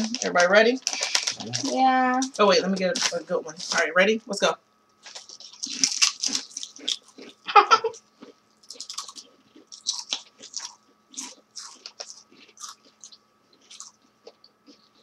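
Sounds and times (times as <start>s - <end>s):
people crunching potato chips: 0.0s - 3.8s, 5.0s - 15.0s.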